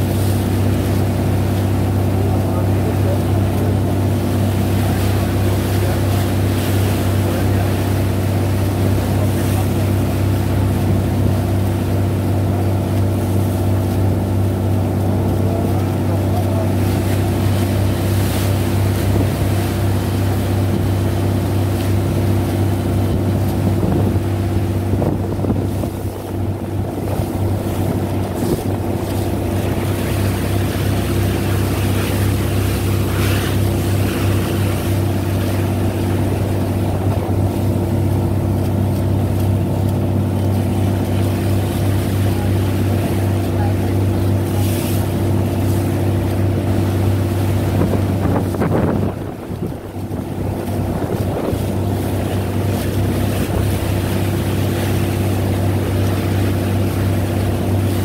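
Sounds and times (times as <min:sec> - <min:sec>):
boat engine humming: 0:00.0 - 0:58.0
water splashing along hull: 0:00.0 - 0:58.0.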